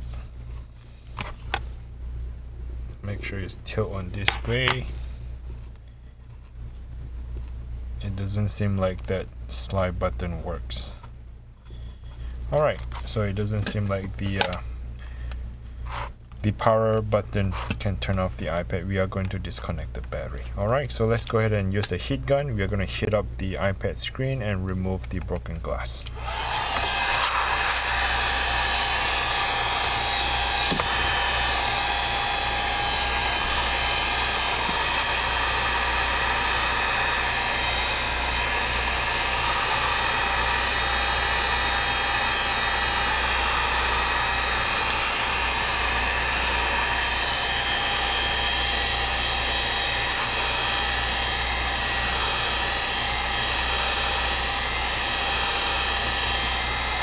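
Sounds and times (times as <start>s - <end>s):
heat gun fan whining: 3.0s - 5.9s, 8.0s - 57.0s.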